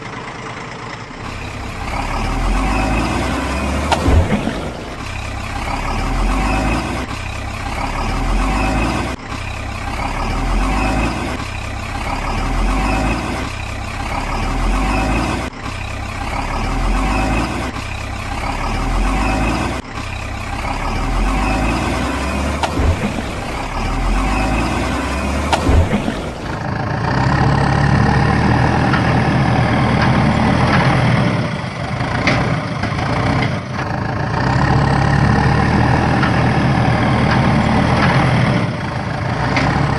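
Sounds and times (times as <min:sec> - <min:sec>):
truck engine rumbling: 0:00.0 - 0:39.9.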